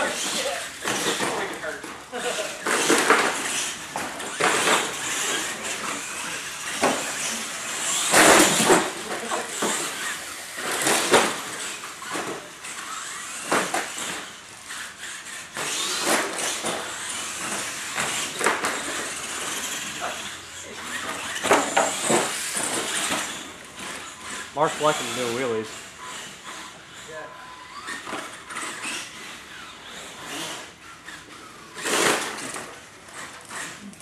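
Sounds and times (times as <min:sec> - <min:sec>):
toy truck motor whine: 0:00.0 - 0:34.0
toy trucks crashing on concrete: 0:00.0 - 0:34.0.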